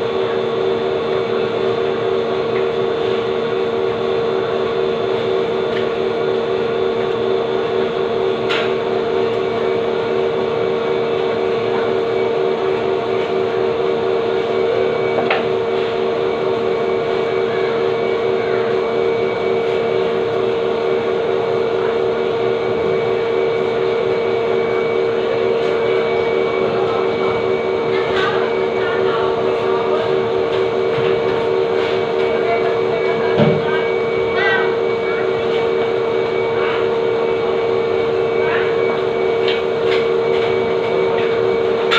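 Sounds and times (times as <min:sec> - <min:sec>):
loud machine drone: 0:00.0 - 0:41.9.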